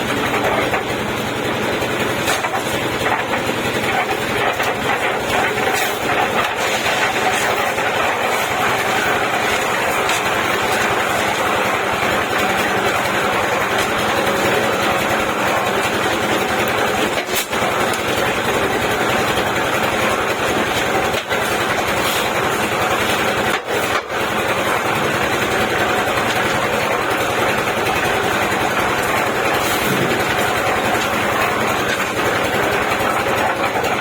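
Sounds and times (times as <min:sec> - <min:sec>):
concrete mixer engine running: 0:00.0 - 0:34.0.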